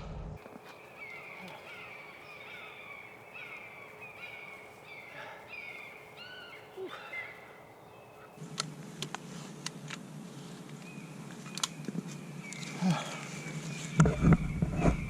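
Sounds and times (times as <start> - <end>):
bird calling: 0.4 - 8.8, 10.4 - 15.0.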